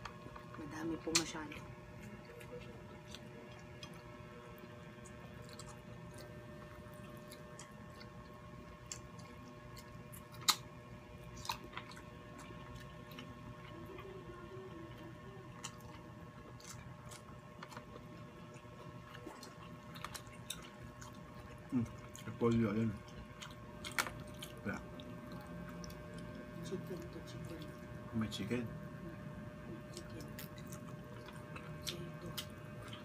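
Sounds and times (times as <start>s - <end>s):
faint steady hum: 0.0s - 33.0s
people chewing: 0.0s - 33.0s.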